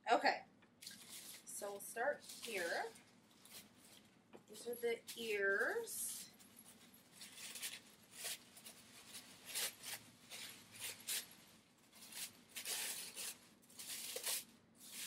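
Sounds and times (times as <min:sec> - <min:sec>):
tissue paper rustling: 0:00.8 - 0:15.0.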